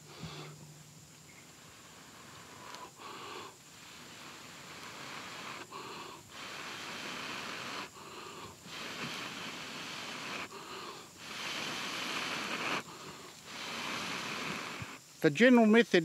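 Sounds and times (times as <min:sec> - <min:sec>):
person blowing hissing breaths: 0:00.0 - 0:15.2.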